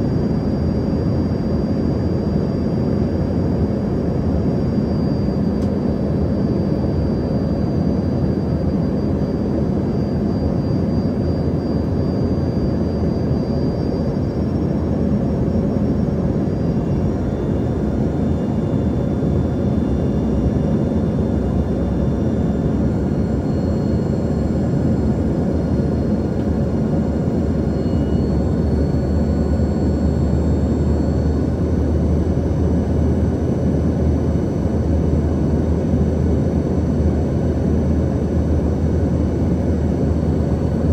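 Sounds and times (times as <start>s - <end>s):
jet cabin engine hum: 0.0s - 40.9s.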